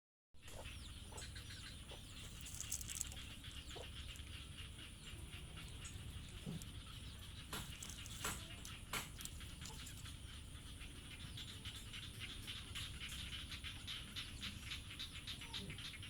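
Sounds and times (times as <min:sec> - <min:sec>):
bird chirps: 0:00.4 - 0:16.0.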